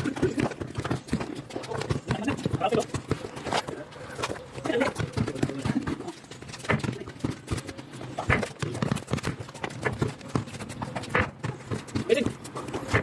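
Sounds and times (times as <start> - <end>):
basketball bouncing on hard court: 0.0 - 13.0
players' footsteps: 0.0 - 13.0.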